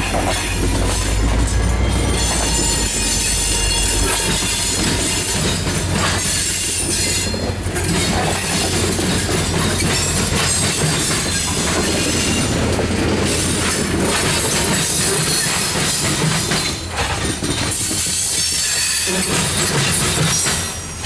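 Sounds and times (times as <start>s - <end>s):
diesel locomotive engine running: 0.0s - 18.1s
wheels pounding over rail crossing: 0.0s - 21.0s.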